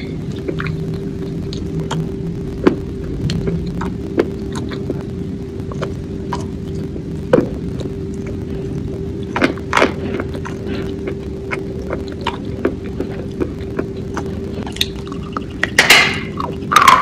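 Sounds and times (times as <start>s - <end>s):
chewing crunchy clay: 0.0s - 5.1s, 5.7s - 17.0s
steady low hum: 0.0s - 17.0s.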